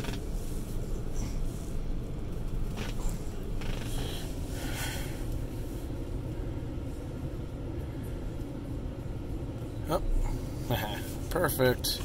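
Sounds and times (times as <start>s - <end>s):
faint rustles: 0.0s - 12.0s
tyre and cabin rumble: 0.0s - 12.0s.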